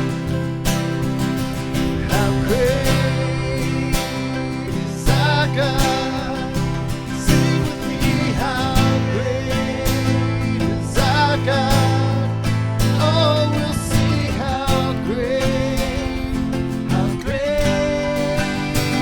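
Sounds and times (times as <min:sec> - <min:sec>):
person singing: 0:00.0 - 0:19.0
strummed acoustic guitar: 0:00.0 - 0:19.0.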